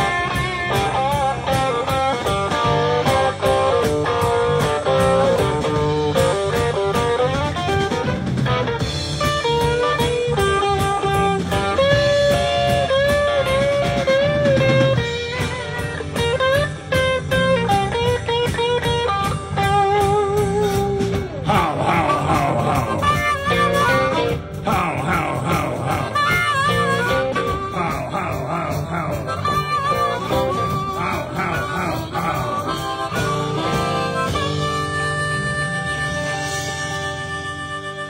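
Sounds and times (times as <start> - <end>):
bass and drums: 0.0 - 38.0
electric guitar solo: 0.0 - 38.0.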